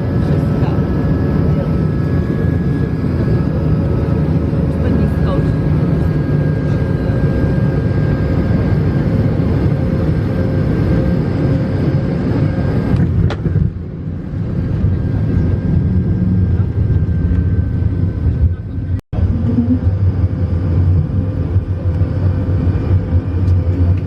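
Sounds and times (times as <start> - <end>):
aircraft engine rumble: 0.0 - 24.0.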